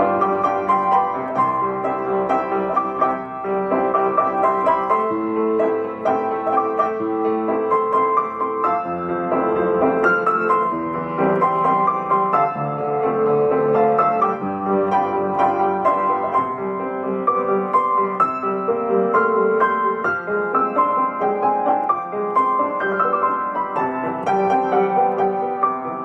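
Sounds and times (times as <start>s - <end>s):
solo piano pop ballad: 0.0s - 26.0s.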